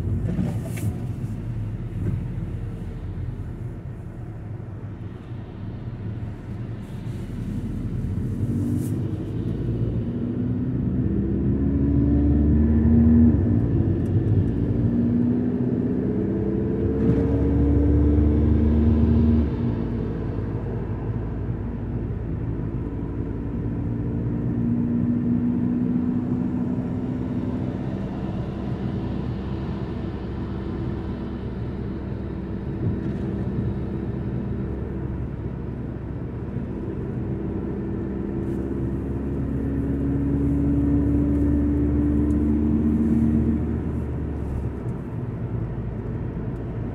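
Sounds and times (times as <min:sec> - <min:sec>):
car engine rumble: 0:00.0 - 0:46.9
road noise inside car: 0:00.0 - 0:46.9.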